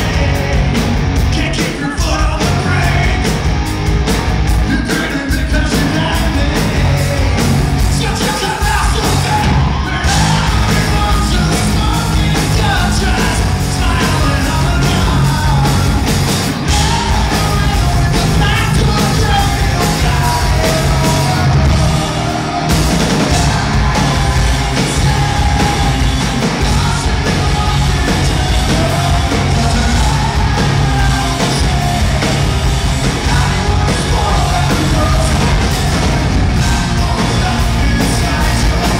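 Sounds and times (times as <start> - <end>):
male singer singing: 0.0 - 3.4, 4.7 - 16.1, 16.7 - 38.9
bass guitar: 0.0 - 38.9
electric guitar: 0.0 - 38.9
steady drum beat: 0.0 - 38.9.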